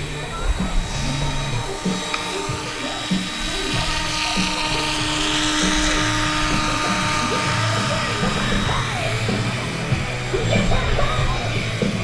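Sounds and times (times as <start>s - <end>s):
background music: 0.0s - 12.0s
model helicopter whine: 0.0s - 12.0s.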